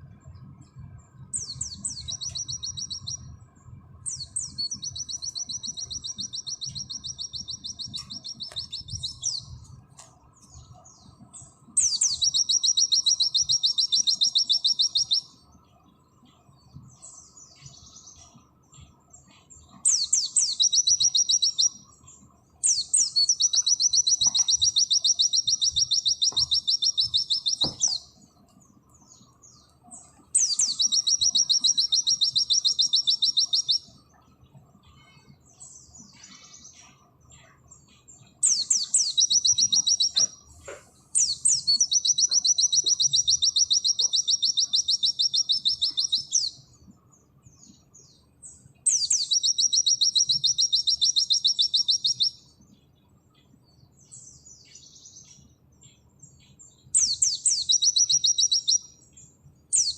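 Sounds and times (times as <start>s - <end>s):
bird singing rapid high trills: 0.0s - 59.9s
soft bird chirps: 0.0s - 59.9s.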